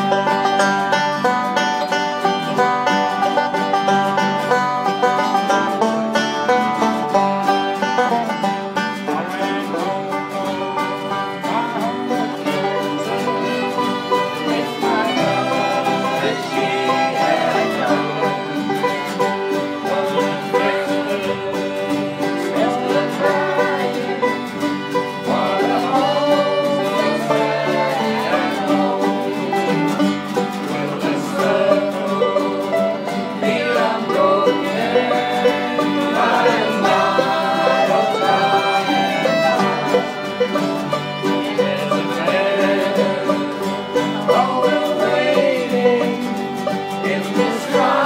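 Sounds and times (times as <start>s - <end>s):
fiddle melody: 0.0s - 48.0s
strummed acoustic guitars: 0.0s - 48.0s.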